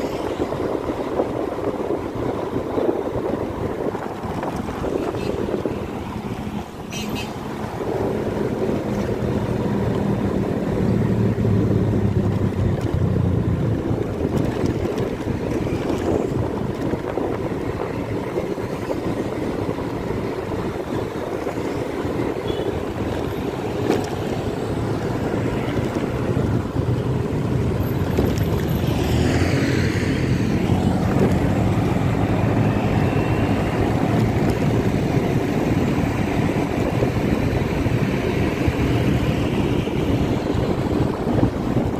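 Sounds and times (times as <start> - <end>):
wind on microphone: 0.0 - 41.9.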